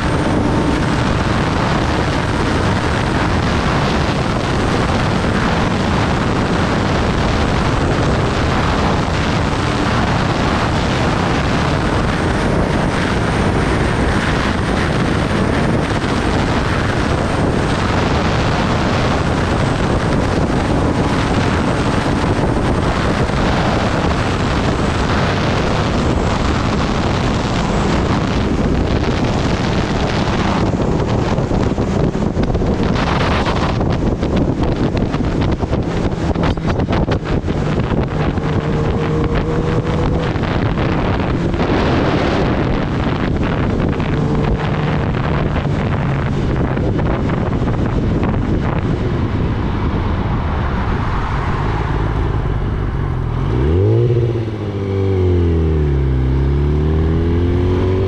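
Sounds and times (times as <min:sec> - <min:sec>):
motorcycle engine running: 0:00.0 - 0:51.0
wind rushing over microphone: 0:00.0 - 0:58.0.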